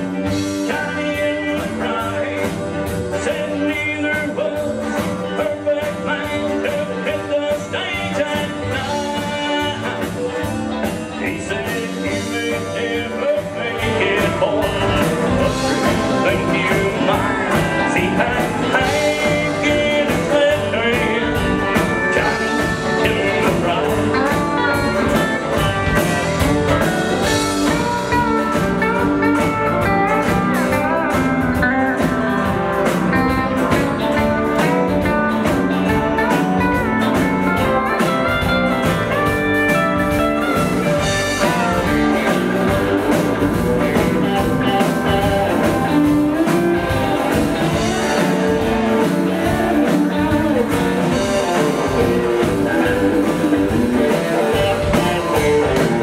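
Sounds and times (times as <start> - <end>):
acoustic guitar: 0.0 - 56.0
drum kit: 0.0 - 56.0
electric bass: 0.0 - 56.0
electric guitar: 0.0 - 56.0.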